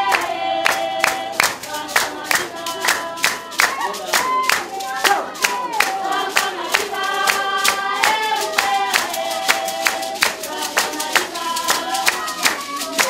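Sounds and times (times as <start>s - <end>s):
group singing: 0.0s - 13.0s
hand clapping: 0.0s - 13.0s.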